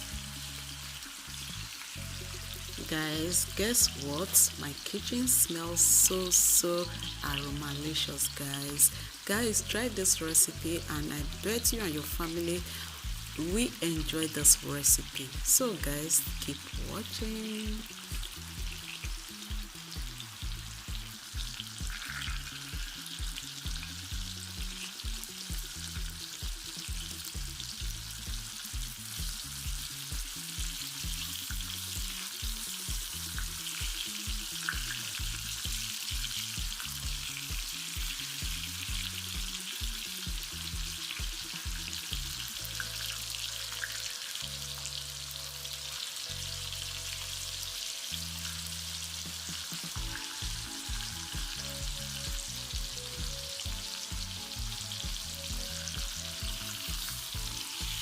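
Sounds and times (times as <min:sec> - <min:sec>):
bass-line music: 0:00.0 - 0:58.0
meat sizzling in a pan: 0:00.0 - 0:58.0.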